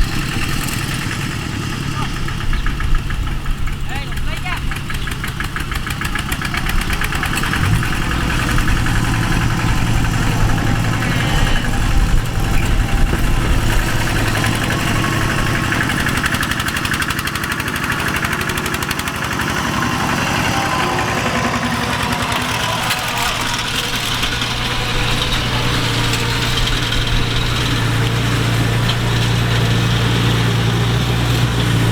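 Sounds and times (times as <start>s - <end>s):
combine harvester engine hum: 0.0s - 31.9s.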